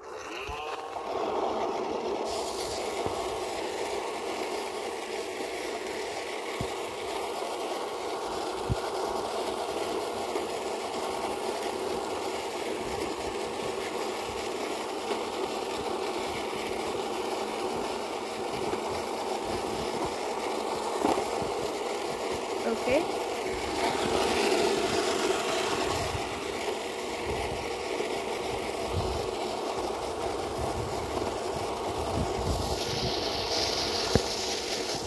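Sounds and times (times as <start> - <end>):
robot vacuum whirring: 0.0 - 35.0.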